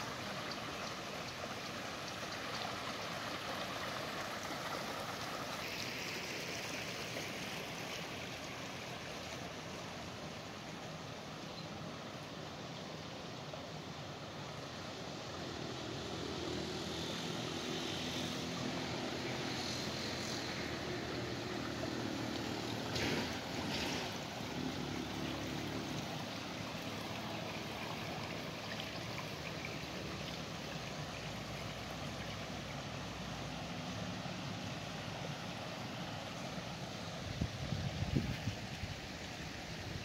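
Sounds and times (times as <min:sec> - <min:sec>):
water rushing over a weir: 0:00.0 - 0:40.0.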